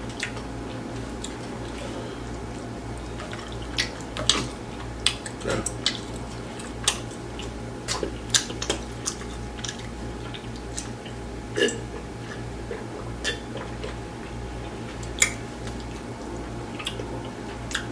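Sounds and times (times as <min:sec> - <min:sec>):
low electrical hum: 0:00.0 - 0:17.9
wet chewing and mouth smacks: 0:00.0 - 0:17.9.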